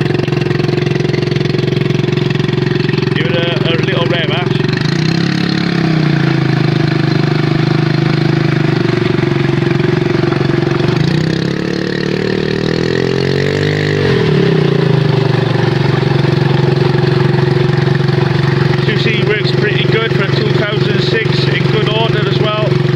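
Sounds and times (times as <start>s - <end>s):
outboard motor idling: 0.0s - 22.9s.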